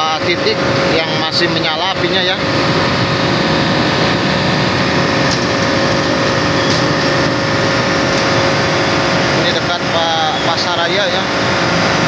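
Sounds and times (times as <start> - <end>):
engine droning with whine: 0.0 - 12.0.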